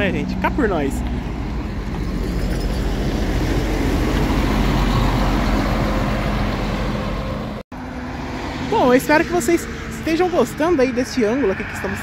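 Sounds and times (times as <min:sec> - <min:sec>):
bus diesel engine passing: 0:00.0 - 0:12.0
road traffic: 0:00.0 - 0:12.0.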